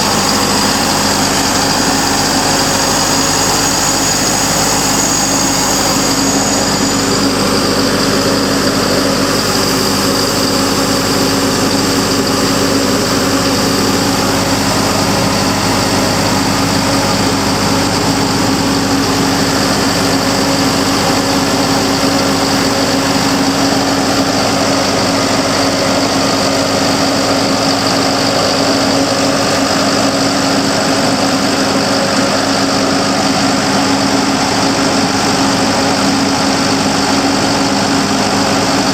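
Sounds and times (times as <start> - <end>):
diesel compressor engine running: 0.0 - 38.9.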